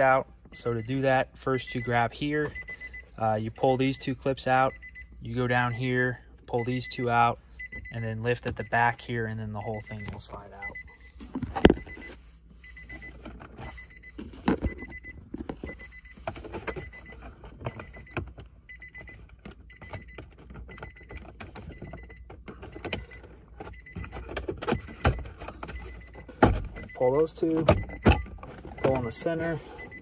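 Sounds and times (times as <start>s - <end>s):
car warning chime beeping: 0.0s - 30.0s.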